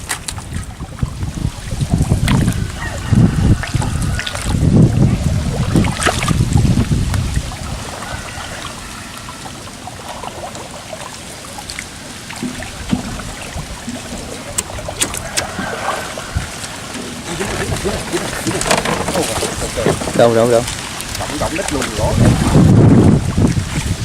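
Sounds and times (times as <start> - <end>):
water sloshing around boat: 0.0 - 24.0.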